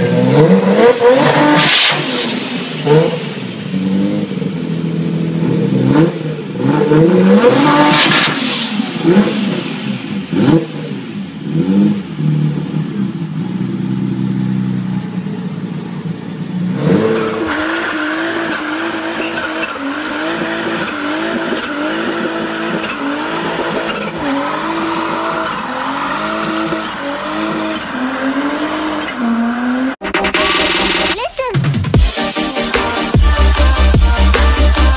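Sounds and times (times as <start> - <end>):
car engine at steady revs: 0.0 - 30.0
car engine revving: 0.0 - 31.2.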